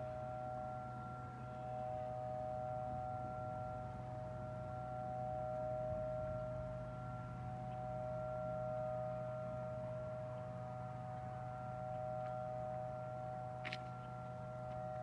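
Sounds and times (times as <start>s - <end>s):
warning siren steady two-note tone: 0.0s - 15.0s.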